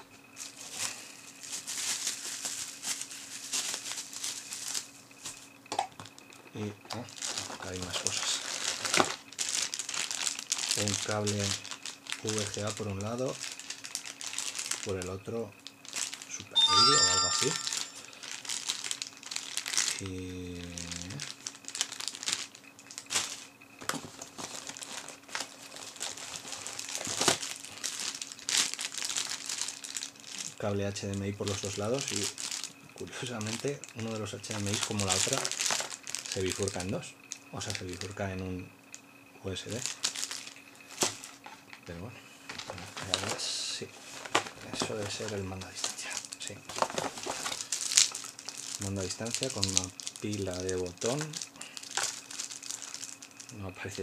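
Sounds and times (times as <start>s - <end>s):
bubble wrap crackling: 0.4s - 5.4s, 7.0s - 16.4s, 17.0s - 30.7s, 31.4s - 36.8s, 39.7s - 41.5s, 42.6s - 53.6s
plastic bag crinkling: 0.4s - 5.4s, 7.0s - 30.7s, 31.4s - 36.8s, 39.7s - 41.9s, 42.5s - 53.6s.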